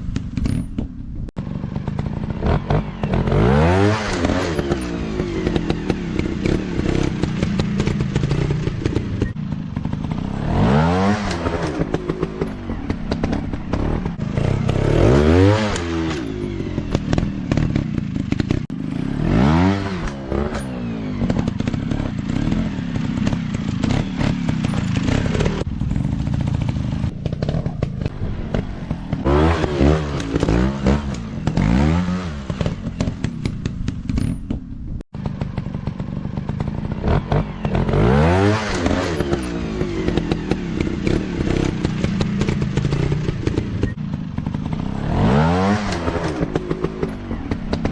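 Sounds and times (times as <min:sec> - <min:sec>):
dirt bike engine revving: 0:01.4 - 0:34.4, 0:35.2 - 0:47.9.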